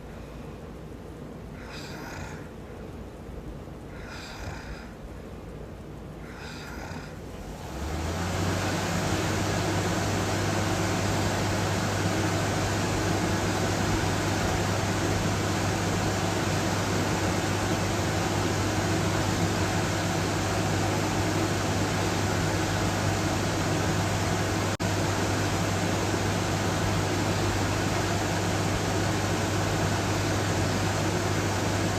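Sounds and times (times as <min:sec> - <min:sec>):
steady rushing noise with low hum: 0:00.0 - 0:31.9.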